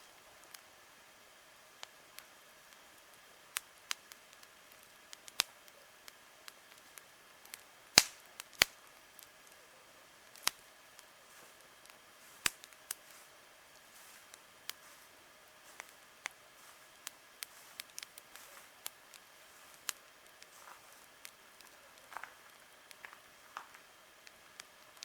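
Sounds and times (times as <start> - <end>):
faint steady hiss: 0.0 - 25.0
wood fire popping and snapping: 0.0 - 25.0.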